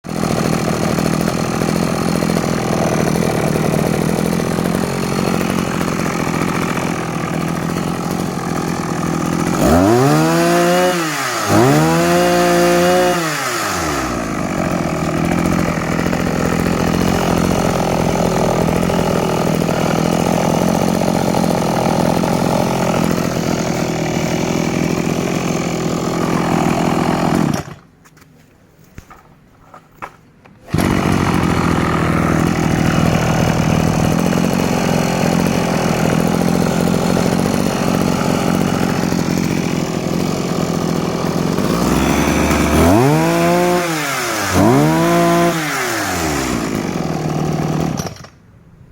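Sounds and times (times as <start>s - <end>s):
brush cutter engine idling and revving: 0.0s - 27.9s, 30.7s - 48.4s.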